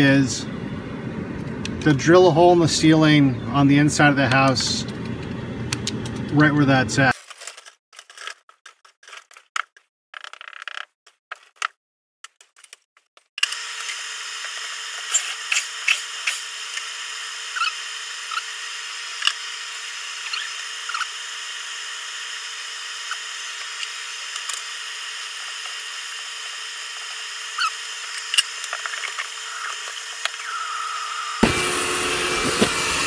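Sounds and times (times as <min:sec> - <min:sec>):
bee vacuum running: 0:00.0 - 0:07.1, 0:13.4 - 0:33.0.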